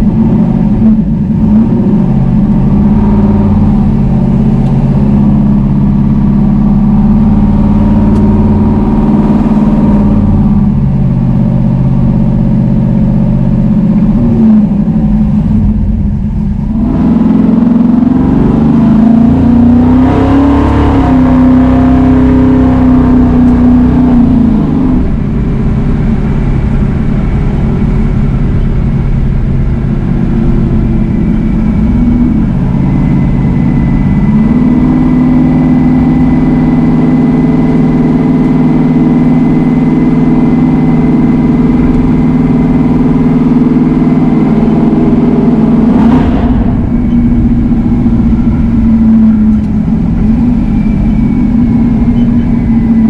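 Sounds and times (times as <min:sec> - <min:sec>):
car engine from inside cabin: 0:00.0 - 0:53.0.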